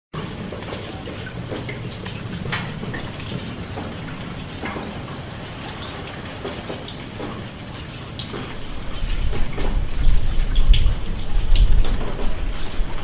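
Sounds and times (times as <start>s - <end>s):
raindrops ticking on a surface: 0.2s - 13.0s
steady rain hiss: 0.2s - 13.0s.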